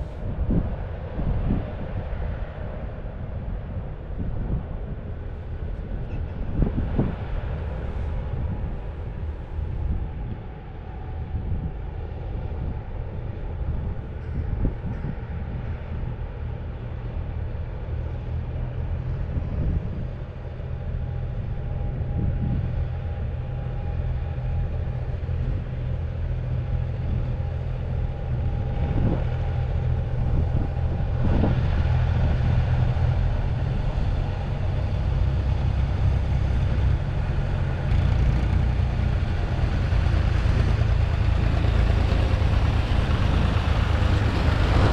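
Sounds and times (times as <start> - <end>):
tractor engines running: 2.2 - 44.9.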